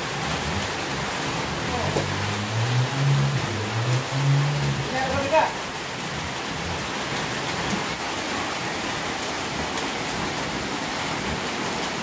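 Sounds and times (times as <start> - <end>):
rain drop ticks: 0.0 - 12.0
steady rain falling: 0.0 - 12.0.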